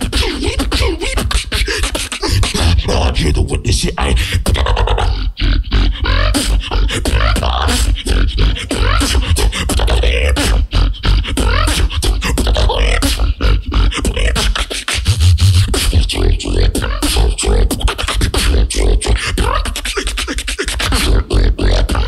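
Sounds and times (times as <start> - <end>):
beatboxing: 0.0 - 22.0.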